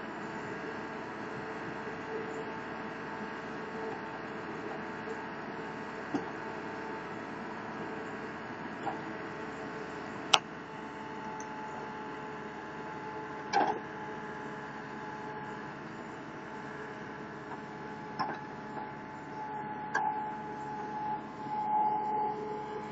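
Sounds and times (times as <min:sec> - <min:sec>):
loader engine drone: 0:00.0 - 0:22.9
steady whine: 0:00.0 - 0:22.9.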